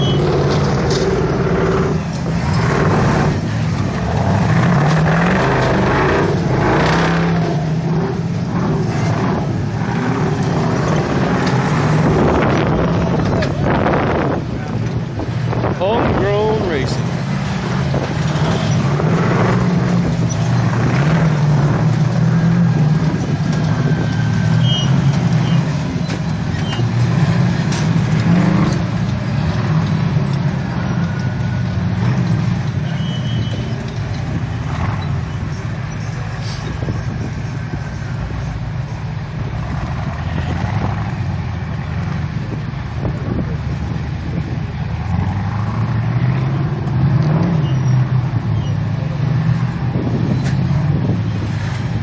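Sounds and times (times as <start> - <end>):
off-road buggy engines revving: 0.0 - 52.0.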